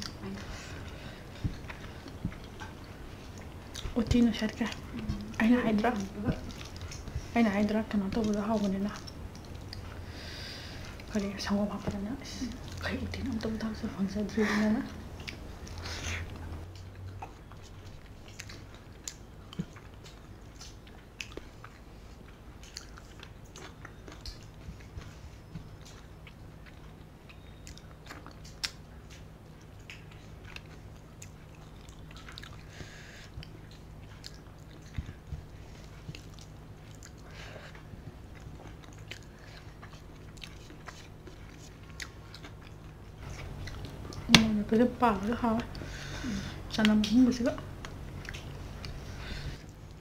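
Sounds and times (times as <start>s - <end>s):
chewing food: 0.0s - 50.0s.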